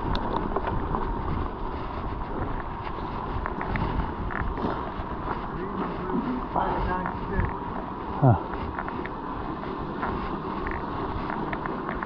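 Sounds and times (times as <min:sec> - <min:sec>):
bike rattles and clicks: 0:00.0 - 0:12.0
mountain bike rolling on trail: 0:00.0 - 0:12.0
wind buffeting microphone: 0:00.0 - 0:12.0.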